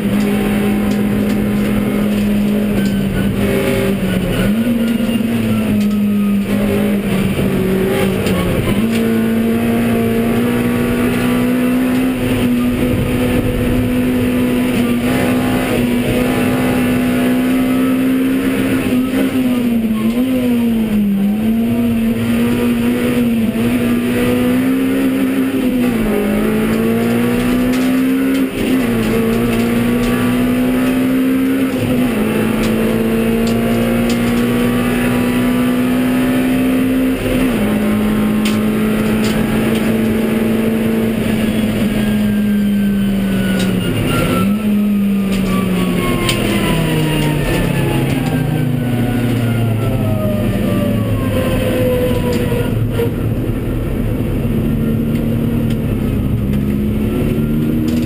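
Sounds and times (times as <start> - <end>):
car engine at high revs: 0.0 - 58.0
road and wind noise: 0.0 - 58.0.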